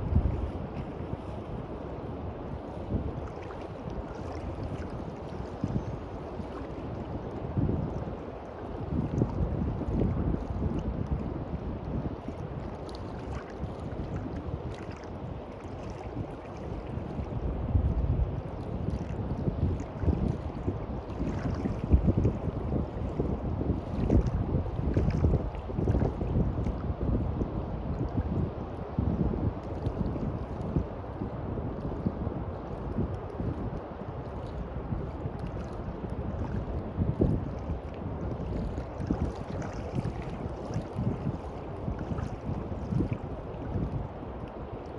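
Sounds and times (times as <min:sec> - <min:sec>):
sea waves washing on beach: 0:00.0 - 0:44.9
wind gusting on microphone: 0:00.0 - 0:44.9.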